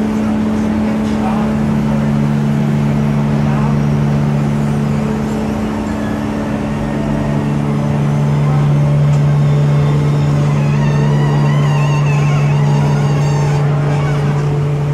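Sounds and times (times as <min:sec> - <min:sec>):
machinery drone: 0:00.0 - 0:14.9.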